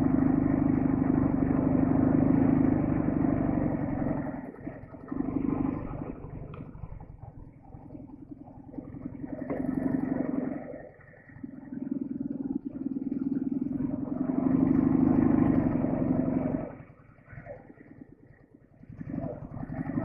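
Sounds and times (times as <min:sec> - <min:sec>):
motorcycle engine under throttle: 0:00.0 - 0:20.0.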